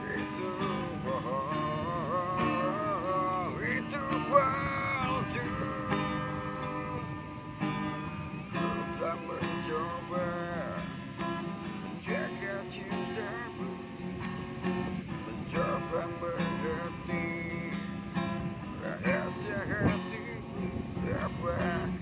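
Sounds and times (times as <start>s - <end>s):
man singing: 0.0s - 13.8s, 15.1s - 22.0s
acoustic guitar strumming: 0.0s - 22.0s.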